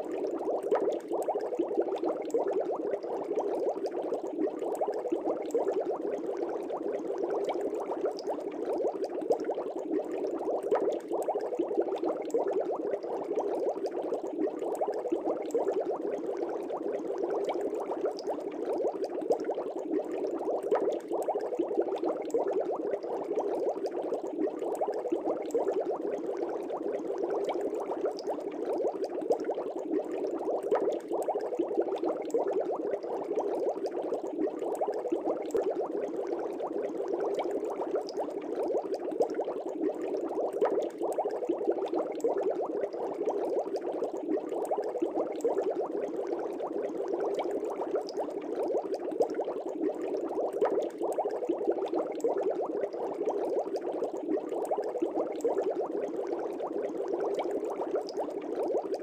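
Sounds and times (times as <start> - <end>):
aquarium air bubbles bubbling: 0.0 - 59.0.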